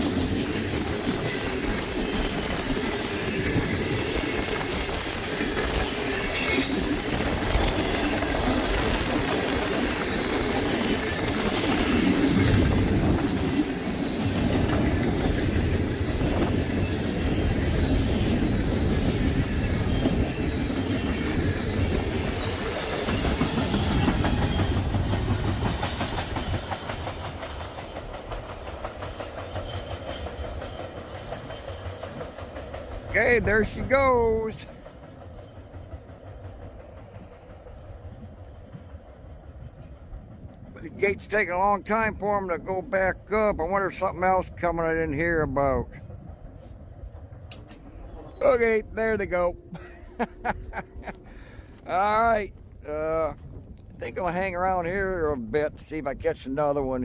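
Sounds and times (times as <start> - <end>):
freight train cars rolling on rails: 0.0 - 57.0.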